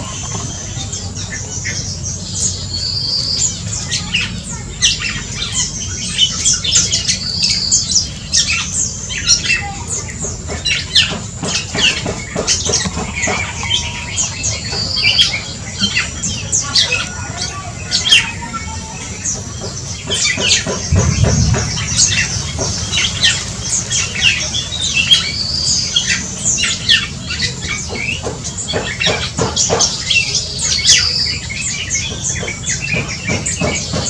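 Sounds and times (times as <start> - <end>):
bird calls and squawks: 0.0 - 34.0.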